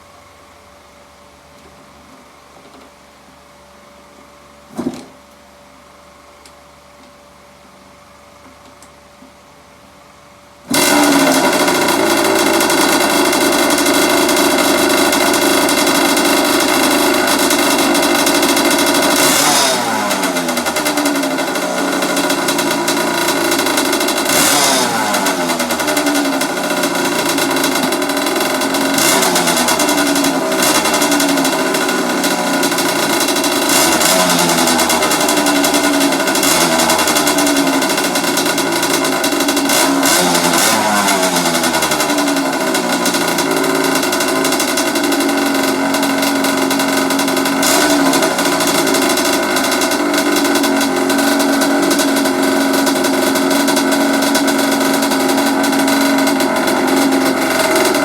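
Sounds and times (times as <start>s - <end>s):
two-stroke engine revving: 10.7s - 58.0s.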